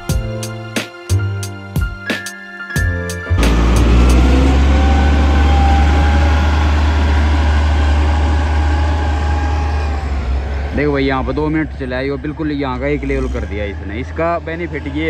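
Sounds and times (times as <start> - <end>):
diesel engine rumbling: 2.8 - 15.0.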